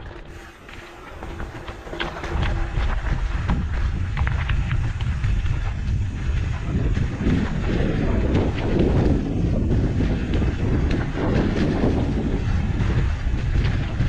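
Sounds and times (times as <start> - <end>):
bike clicks and rattles: 0.0 - 14.0
wind rushing over microphone: 0.0 - 14.0.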